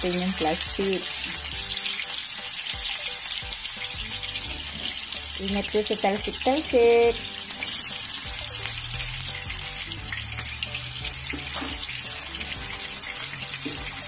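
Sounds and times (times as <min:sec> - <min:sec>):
oil crackling and popping: 0:00.0 - 0:14.0
sausages sizzling in oil: 0:00.0 - 0:14.0.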